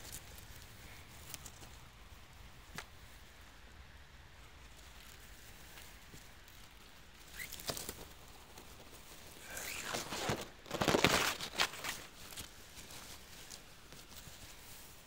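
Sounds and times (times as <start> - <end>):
moss and twigs rustling and crackling: 0.0 - 15.0.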